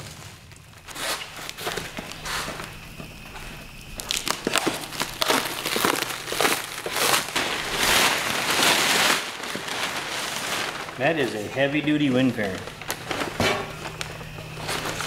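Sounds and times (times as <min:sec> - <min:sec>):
plastic wrap and paper crinkling: 0:00.0 - 0:15.0.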